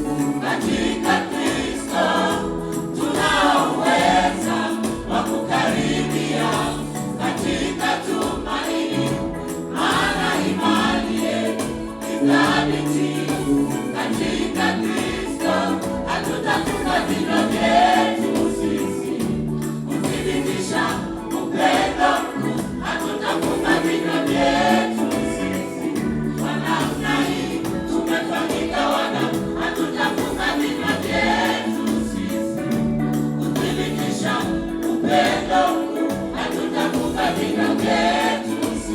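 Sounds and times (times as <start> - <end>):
accompaniment with beat and bass: 0.0 - 38.9
choir singing gospel song: 0.0 - 38.9.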